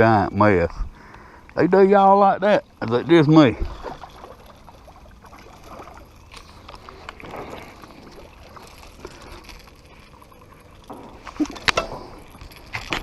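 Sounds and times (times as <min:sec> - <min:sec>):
water and wind noise: 0:00.0 - 0:13.0.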